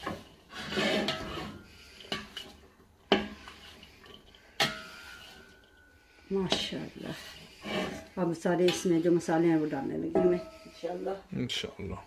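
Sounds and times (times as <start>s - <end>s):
spatula scraping meat in pan: 0.0s - 11.0s.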